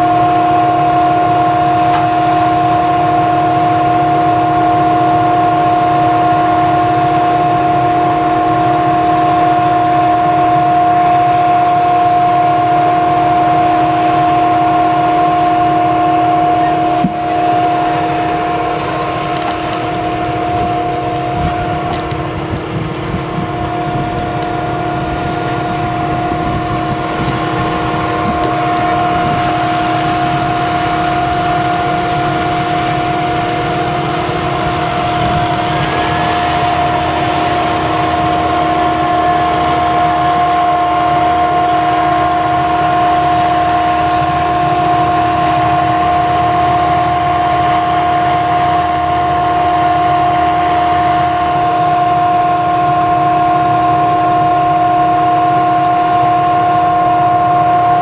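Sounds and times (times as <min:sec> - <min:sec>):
high steady whine: 0:00.0 - 0:58.0
loud machine drone: 0:00.0 - 0:58.0.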